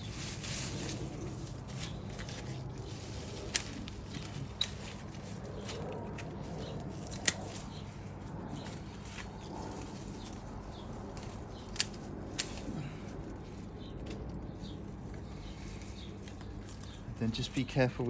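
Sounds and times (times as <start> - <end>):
pruning shears snipping stems: 0.0 - 17.6.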